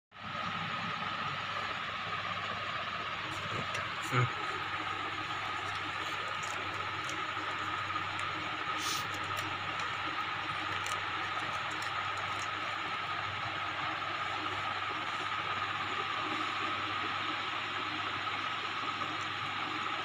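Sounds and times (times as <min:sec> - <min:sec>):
machine hum with high whine: 0:00.1 - 0:20.0.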